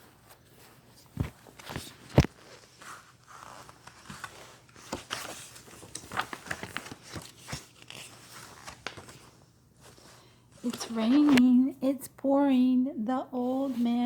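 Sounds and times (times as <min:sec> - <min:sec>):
paper rustling: 0:00.0 - 0:11.5
soft clicks of book handling: 0:00.2 - 0:11.5.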